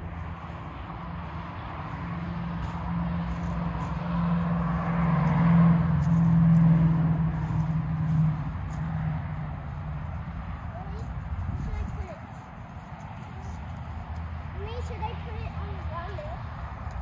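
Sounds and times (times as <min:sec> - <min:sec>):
vehicle engine low hum: 0:00.0 - 0:17.0.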